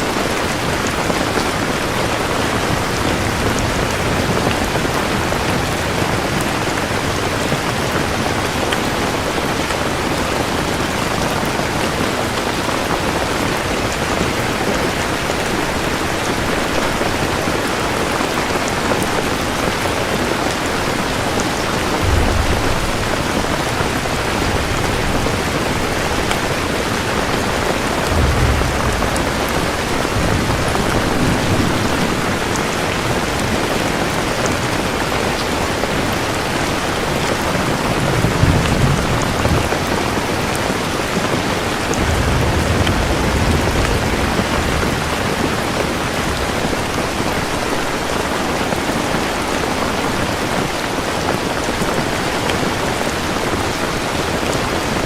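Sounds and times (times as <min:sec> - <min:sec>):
thunder rumbling: 0:00.0 - 0:36.2, 0:36.8 - 0:49.0
heavy rain falling: 0:00.0 - 0:55.0.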